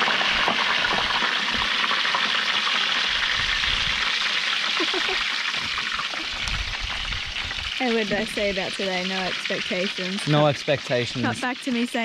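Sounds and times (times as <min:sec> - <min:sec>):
squid deep-frying in oil: 0:00.0 - 0:12.0.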